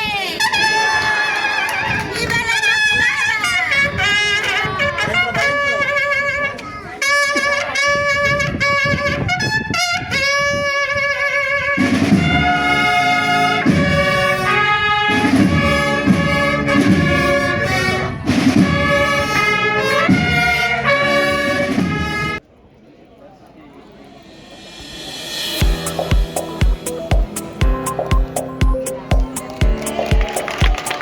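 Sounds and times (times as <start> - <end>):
trumpets and saxophones melody: 2.7 - 22.4, 25.6 - 31.0.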